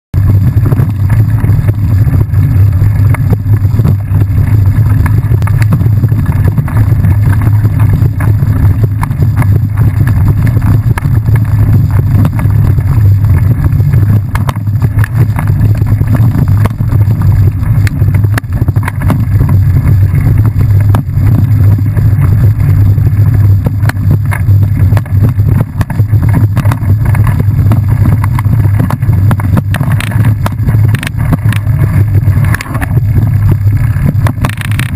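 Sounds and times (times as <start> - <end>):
bike tyres on dirt trail: 0.2 - 34.9
wind buffeting microphone: 0.2 - 34.9.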